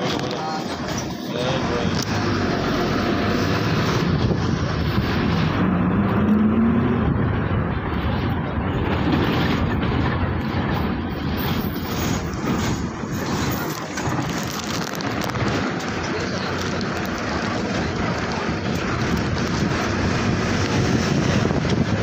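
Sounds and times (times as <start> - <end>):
bus engine running: 0.0 - 22.0
road noise: 0.0 - 22.0.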